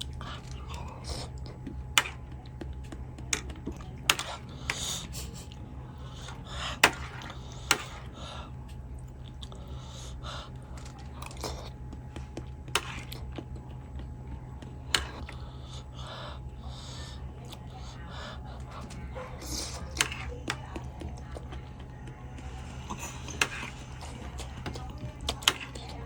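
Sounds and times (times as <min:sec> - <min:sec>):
person chewing: 0:00.0 - 0:26.0
steady low hum: 0:00.0 - 0:26.0.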